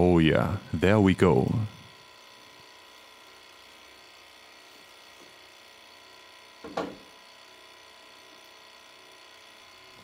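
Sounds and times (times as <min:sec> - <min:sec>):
electrical equipment whine: 0:00.0 - 0:10.0.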